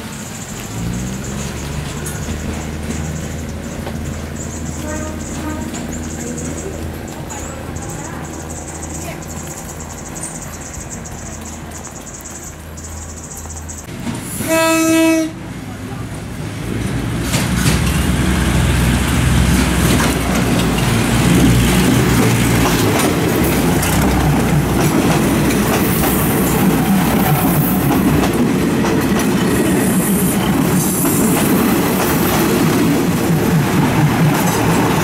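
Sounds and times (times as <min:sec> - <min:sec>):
diesel engine rumbling: 0:00.0 - 0:14.4, 0:15.3 - 0:35.0
wheels clattering over track: 0:00.0 - 0:14.4, 0:17.1 - 0:35.0.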